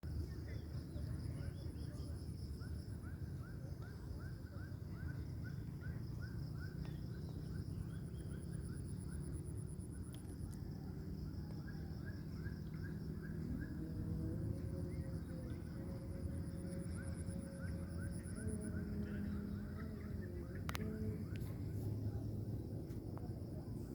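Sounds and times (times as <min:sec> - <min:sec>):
high pulsing hum: 0:00.0 - 0:23.9.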